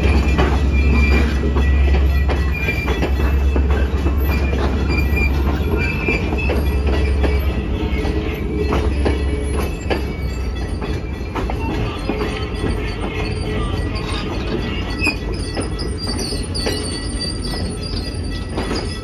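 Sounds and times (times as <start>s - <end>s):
high wheel squeals: 0.0s - 19.0s
wheels rumbling on rail: 0.0s - 19.0s.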